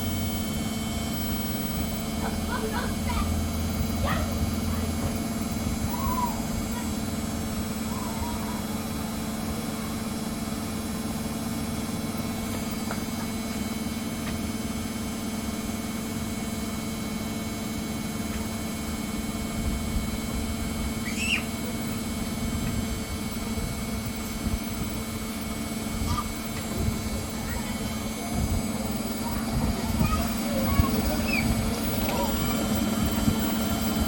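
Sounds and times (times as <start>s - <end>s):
washing machine humming: 0.0s - 34.0s.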